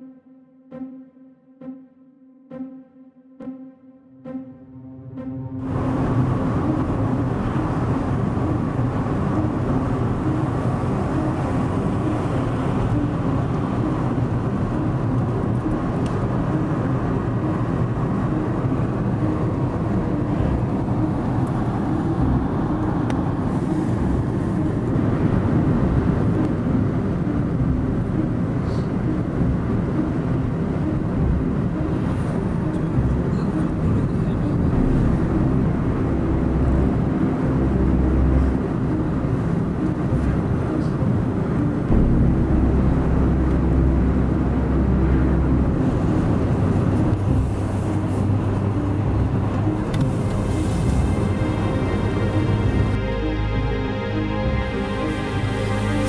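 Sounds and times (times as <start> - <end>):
engine and tyre rumble in car: 5.6 - 56.0.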